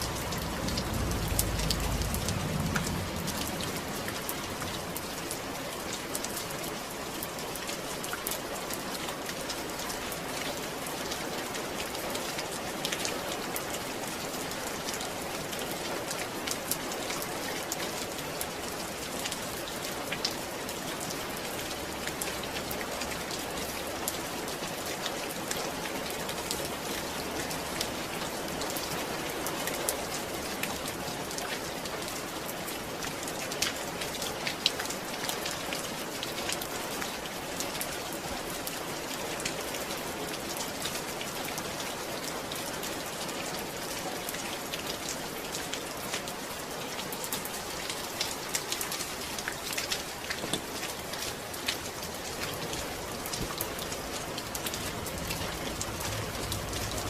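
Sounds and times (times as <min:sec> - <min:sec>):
raindrops pattering on a surface: 0:00.0 - 0:57.0
steady rain: 0:00.0 - 0:57.0.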